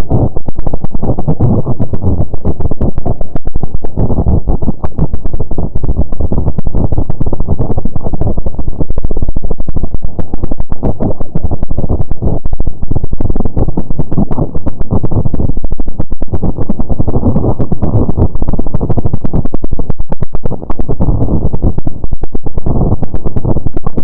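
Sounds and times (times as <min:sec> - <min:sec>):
muffled low rumble with crackling: 0:00.0 - 0:24.0.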